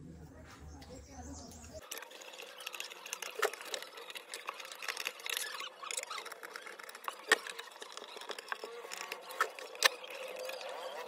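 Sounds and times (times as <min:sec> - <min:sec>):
small metallic clicks and scrapes: 0:01.8 - 0:11.0.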